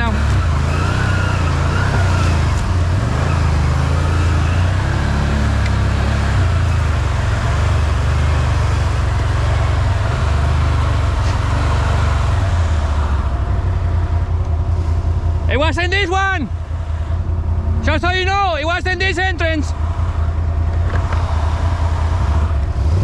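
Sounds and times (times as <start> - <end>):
atv engine rumbling: 0.0 - 23.0.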